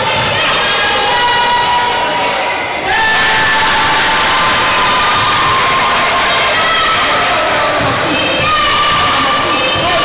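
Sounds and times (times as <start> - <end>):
crowd cheering and shouting: 0.0 - 10.0.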